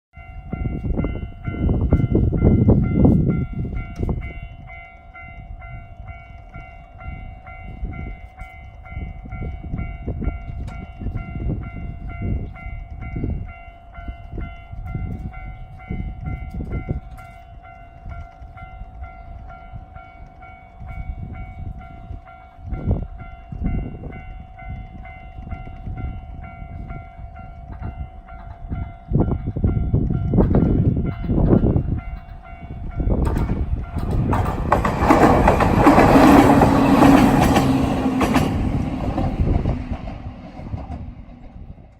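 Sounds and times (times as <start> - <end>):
level crossing warning bell: 0.2 - 41.7
train rumbling across: 0.2 - 41.9.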